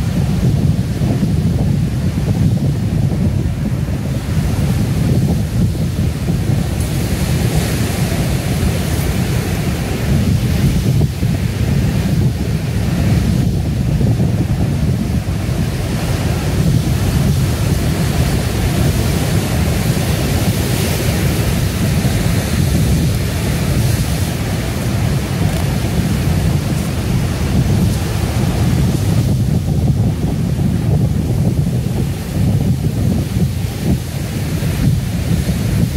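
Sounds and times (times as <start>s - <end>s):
waves crashing over rocks: 0.0s - 35.9s.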